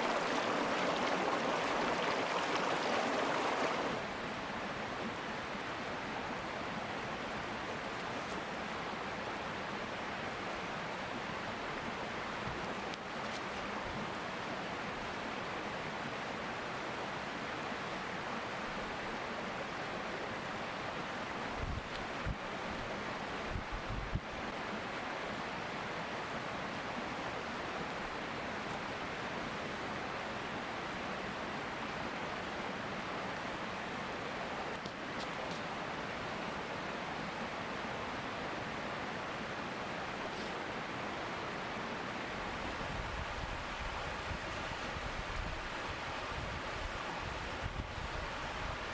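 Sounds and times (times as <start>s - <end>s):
mountain stream flowing: 0.0s - 48.9s.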